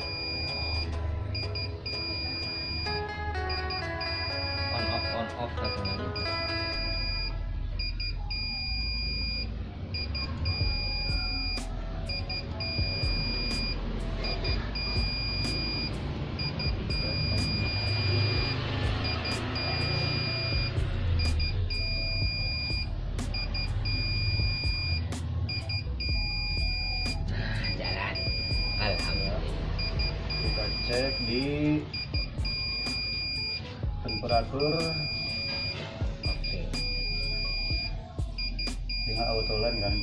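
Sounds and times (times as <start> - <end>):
high-toned buzzer beeping: 0.0 - 40.0.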